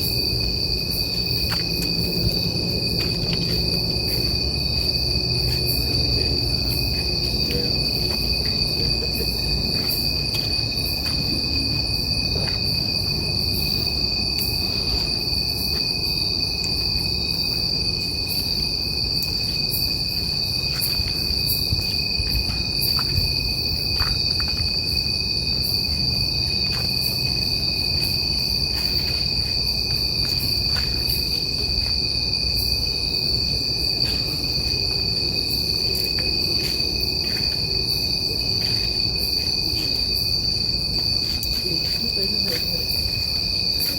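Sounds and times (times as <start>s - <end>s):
night insects trilling: 0.0s - 43.9s.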